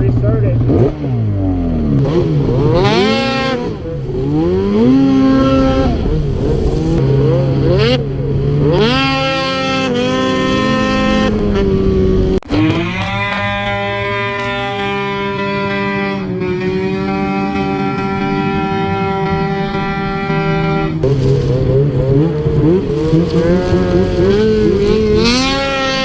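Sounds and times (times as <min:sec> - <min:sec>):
snowmobile engines revving: 0:00.0 - 0:26.0.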